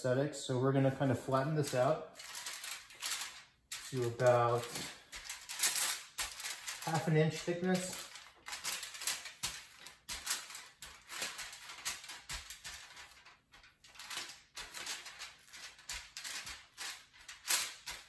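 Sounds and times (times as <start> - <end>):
aluminium foil crinkling: 1.3 - 18.0.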